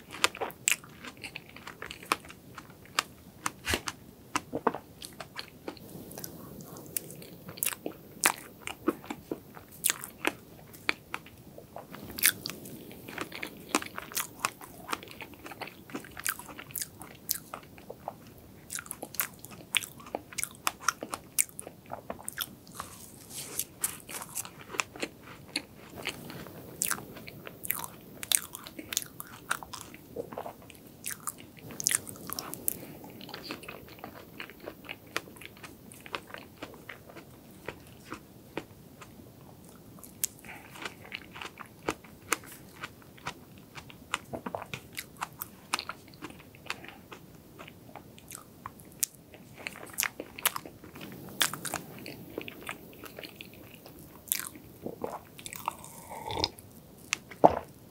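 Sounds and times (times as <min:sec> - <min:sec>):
chewing cake: 0:00.0 - 0:57.8.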